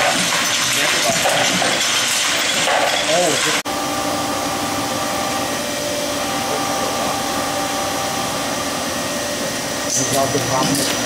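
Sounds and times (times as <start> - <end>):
machine whirring hum: 0.0 - 11.0.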